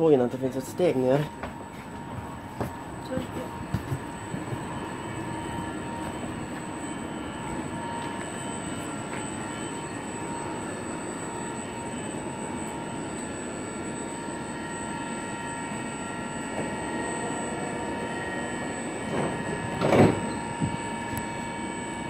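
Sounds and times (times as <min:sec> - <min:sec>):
train equipment humming: 0:00.0 - 0:22.0.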